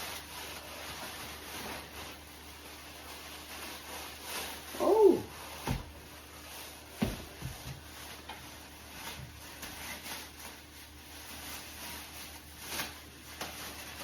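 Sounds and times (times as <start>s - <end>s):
plastic rain pants rustling: 0.0s - 14.0s.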